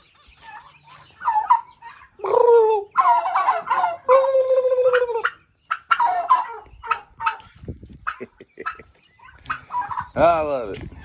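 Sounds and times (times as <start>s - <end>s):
turkey gobbling: 0.0s - 10.4s.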